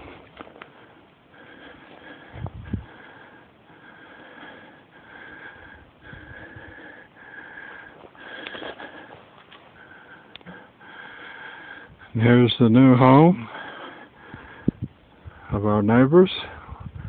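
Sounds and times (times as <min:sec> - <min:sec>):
person breathing: 0:00.0 - 0:12.2, 0:13.4 - 0:15.6, 0:16.4 - 0:17.0.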